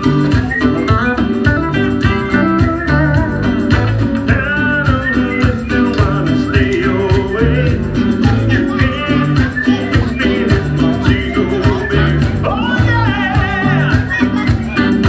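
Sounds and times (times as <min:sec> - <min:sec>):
upbeat pop music: 0:00.0 - 0:15.0.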